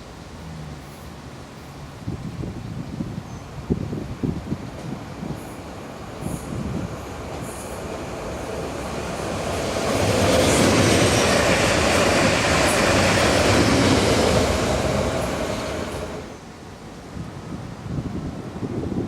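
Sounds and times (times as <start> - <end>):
train passing on track: 0.0 - 19.0.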